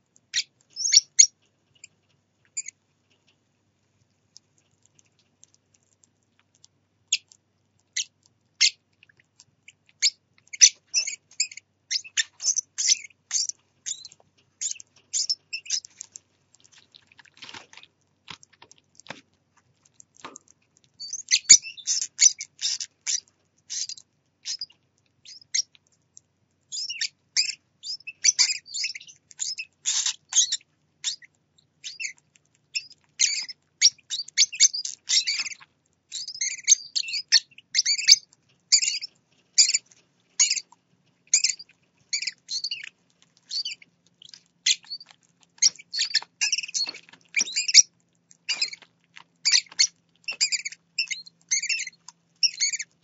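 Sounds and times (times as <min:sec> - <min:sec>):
bird chicks chirping and squeaking: 0:00.0 - 0:53.0.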